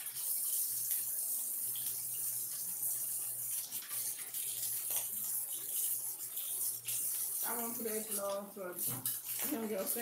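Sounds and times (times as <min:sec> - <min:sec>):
patties sizzling in a pan: 0:00.0 - 0:10.0.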